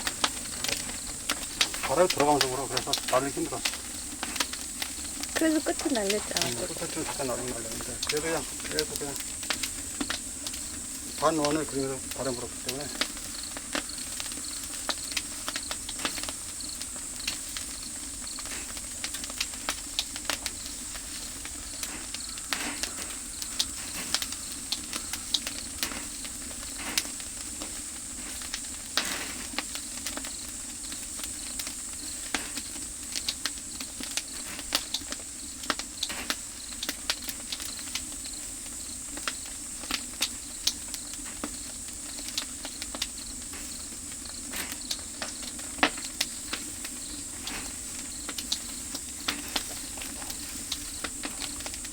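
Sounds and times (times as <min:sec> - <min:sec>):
fire crackling and popping: 0:00.0 - 0:51.9
insects chirping: 0:00.0 - 0:51.9
steady hiss: 0:00.0 - 0:51.9.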